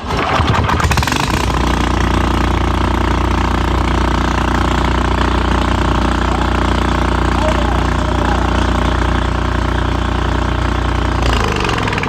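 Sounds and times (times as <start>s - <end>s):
small engine starting and idling: 0.0s - 12.0s.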